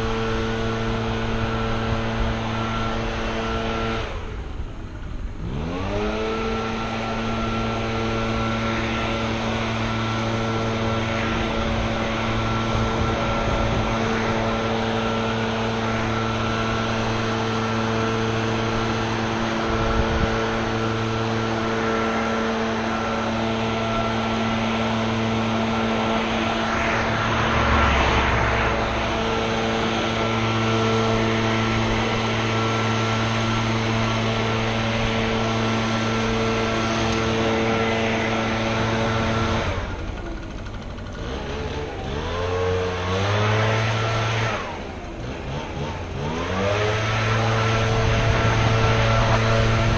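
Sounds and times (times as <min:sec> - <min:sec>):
small gasoline engine running: 0:00.0 - 0:49.9.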